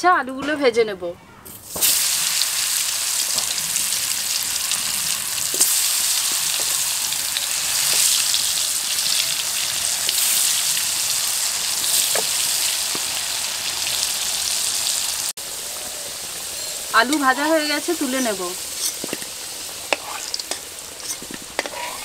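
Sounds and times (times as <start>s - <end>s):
potatoes deep-frying in oil: 1.6s - 22.0s.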